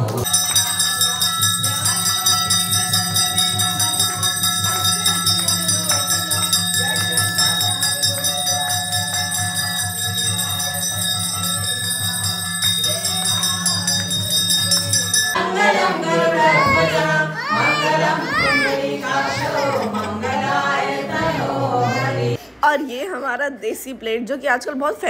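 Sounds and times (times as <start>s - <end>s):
voices singing devotional song: 0.0s - 22.5s
sustained instrumental tones: 0.2s - 22.4s.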